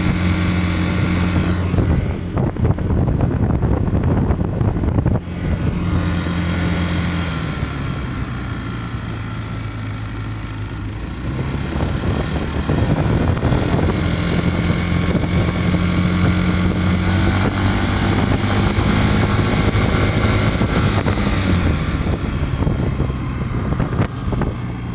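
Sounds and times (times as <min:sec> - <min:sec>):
wind on microphone: 0:00.0 - 0:08.4, 0:10.8 - 0:24.9
scooter engine running: 0:00.0 - 0:24.9.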